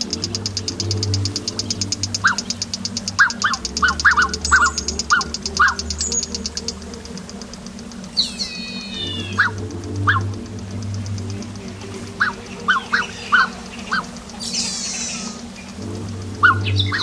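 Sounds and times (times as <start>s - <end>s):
short chirping calls: 0.0s - 7.3s, 8.1s - 10.4s, 11.0s - 15.8s
fast high pulsing trill: 0.0s - 17.0s
steady low rumble: 0.0s - 17.0s.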